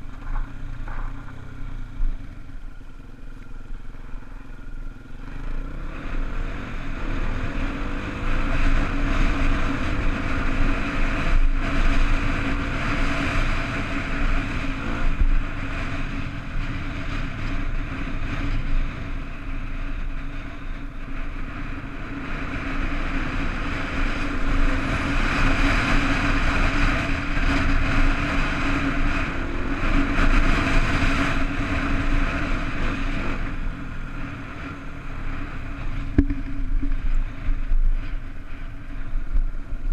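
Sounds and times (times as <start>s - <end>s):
wind noise on microphone: 0.0s - 2.7s, 5.8s - 39.9s.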